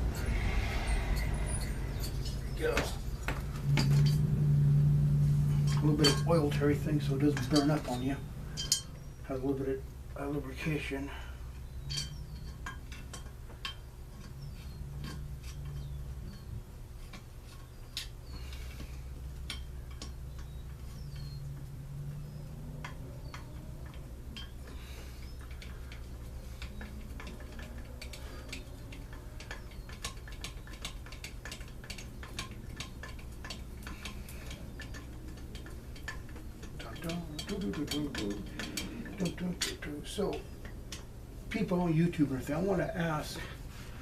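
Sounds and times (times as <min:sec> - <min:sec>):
steady low hum: 0:00.0 - 0:44.0
small metallic clicks and clinks: 0:00.3 - 0:04.4, 0:05.4 - 0:09.6, 0:10.6 - 0:41.7.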